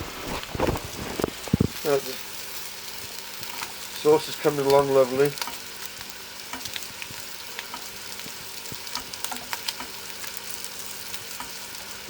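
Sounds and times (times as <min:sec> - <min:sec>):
food sizzling in pans: 0:00.0 - 0:12.0.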